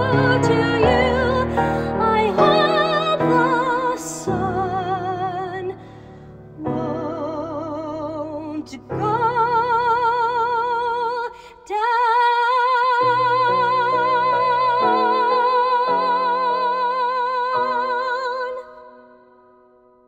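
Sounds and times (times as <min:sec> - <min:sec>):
woman singing operatically: 0:00.0 - 0:05.8, 0:06.6 - 0:18.9.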